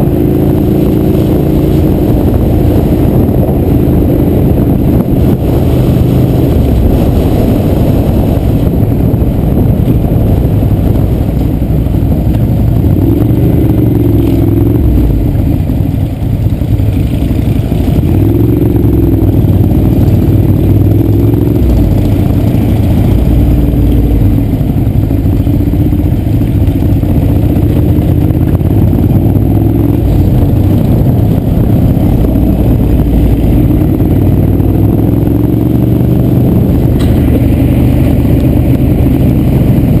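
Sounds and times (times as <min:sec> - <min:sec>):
motorcycle engine running: 0:00.0 - 0:40.0
wind rumble: 0:00.0 - 0:40.0.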